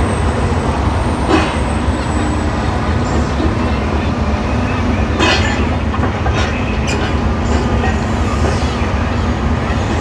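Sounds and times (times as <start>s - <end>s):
diesel machinery rumbling: 0.0s - 10.0s.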